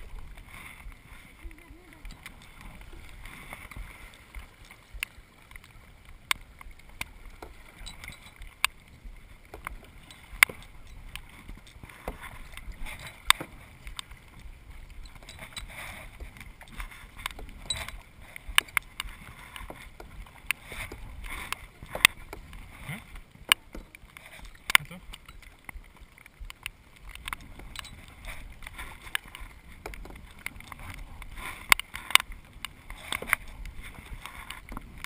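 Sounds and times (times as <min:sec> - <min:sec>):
paddle swishing through water: 0:00.0 - 0:35.0
sharp knocks and clicks: 0:06.2 - 0:35.0.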